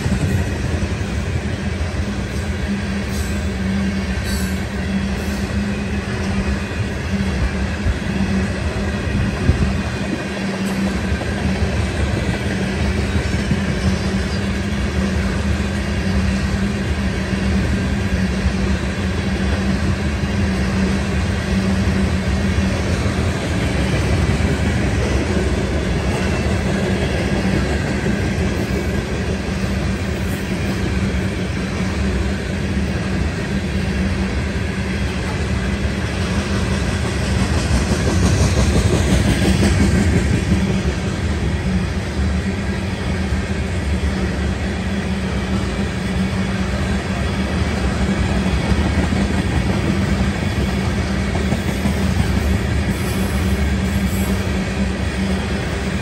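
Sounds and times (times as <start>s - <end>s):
freight train wheels clattering: 0.0s - 56.0s.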